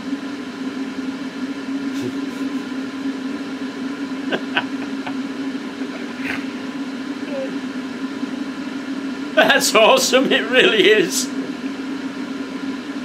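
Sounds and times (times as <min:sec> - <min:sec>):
electric blower running: 0:00.0 - 0:13.0.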